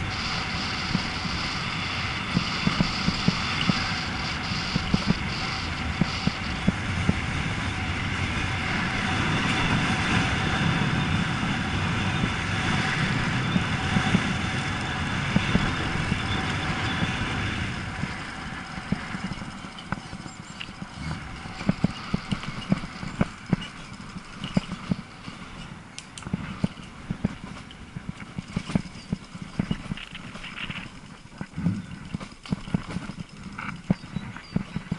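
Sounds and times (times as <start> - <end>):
bike clicks and rattles: 0.0 - 34.9
wind and tyres rushing: 0.0 - 34.9.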